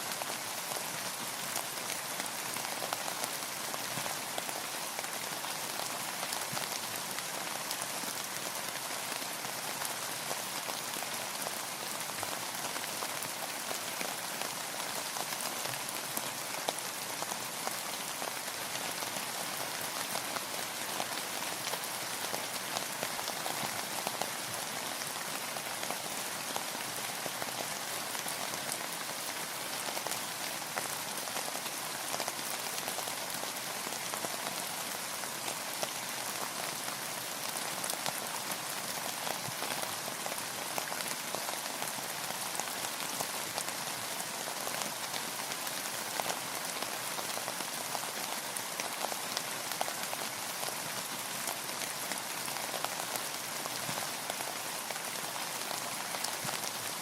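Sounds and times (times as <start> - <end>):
fine raindrops pattering: 0.1 - 57.0.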